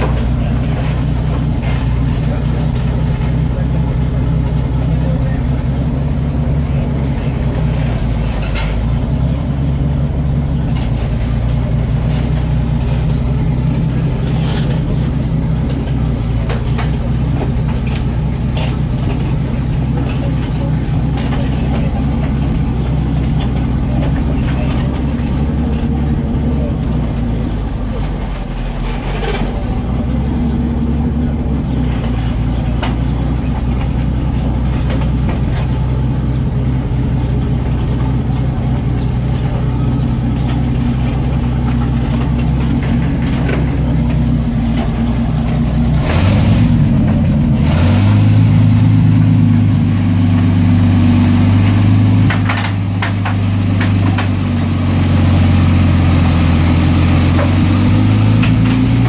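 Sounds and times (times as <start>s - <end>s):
tank engine running under load: 0.0s - 59.0s.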